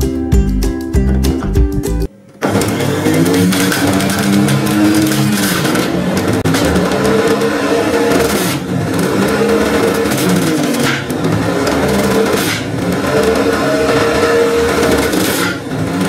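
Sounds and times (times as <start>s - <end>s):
juicer motor whining: 2.1s - 16.0s.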